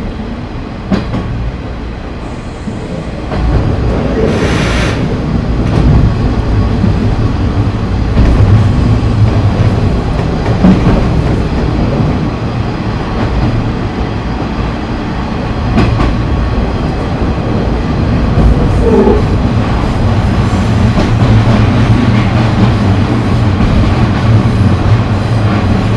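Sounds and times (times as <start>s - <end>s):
railcar engine and wheels rumbling: 0.0s - 25.9s
rail joint clacks: 0.8s - 1.4s, 2.6s - 14.7s, 15.6s - 25.9s.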